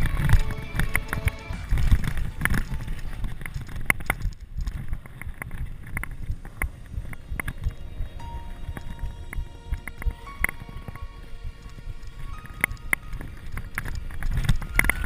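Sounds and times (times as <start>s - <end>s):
bike tyres rumbling on dirt: 0.0s - 15.0s
wind buffeting microphone: 0.0s - 15.0s.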